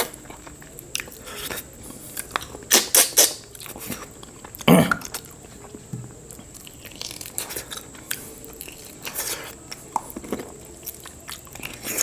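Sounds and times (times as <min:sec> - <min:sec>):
wet chewing and mouth smacks: 0:00.0 - 0:12.0.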